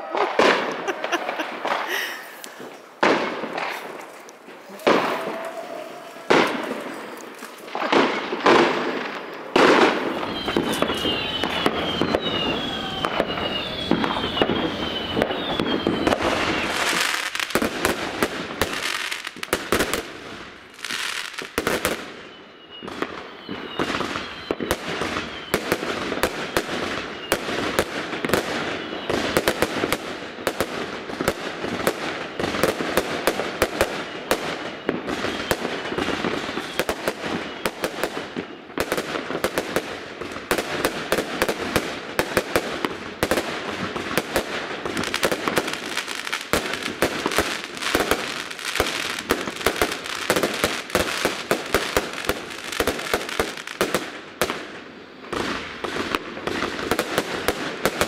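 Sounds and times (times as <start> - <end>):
fireworks cracking and banging: 0.0 - 58.0.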